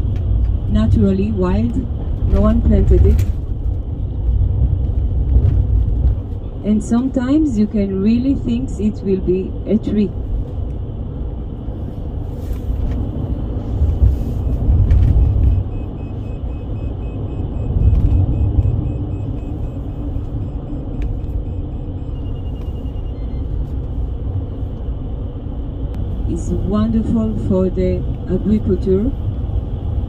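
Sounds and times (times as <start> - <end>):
road and engine rumble: 0.0 - 30.0.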